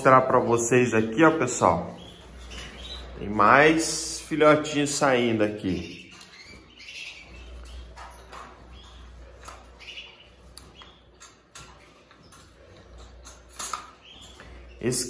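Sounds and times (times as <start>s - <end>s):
canaries chirping: 0.0s - 15.0s.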